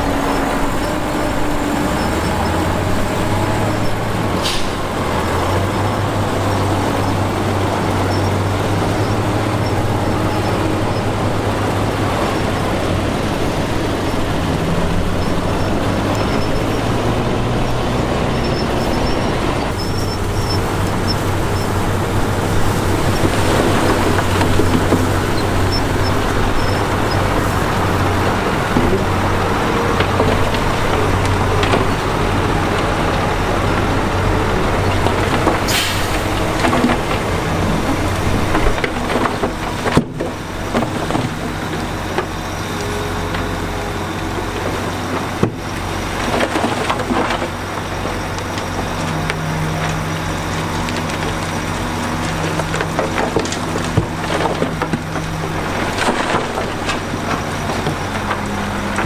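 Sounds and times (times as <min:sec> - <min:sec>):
dirt and stone crackling: 0:00.0 - 0:59.0
heavy machinery engine rumbling: 0:00.0 - 0:59.0.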